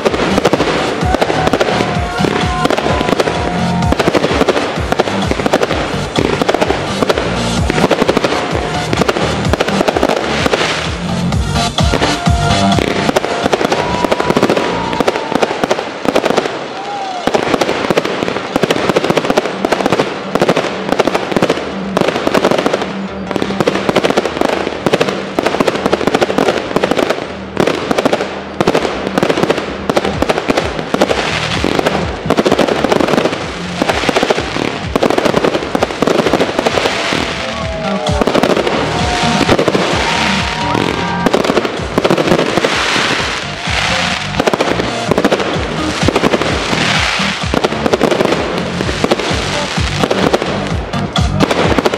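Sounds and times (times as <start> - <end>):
fireworks crackling: 0.0 - 51.9
fireworks launching and bursting: 0.0 - 51.9
music: 0.0 - 51.9.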